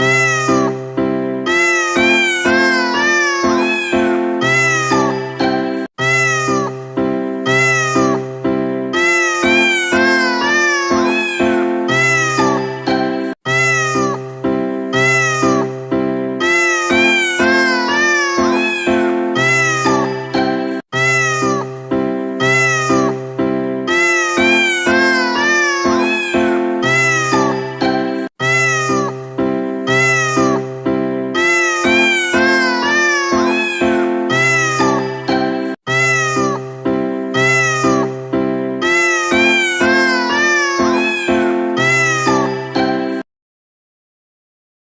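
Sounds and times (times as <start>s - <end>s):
cat meows melody: 0.0s - 43.2s.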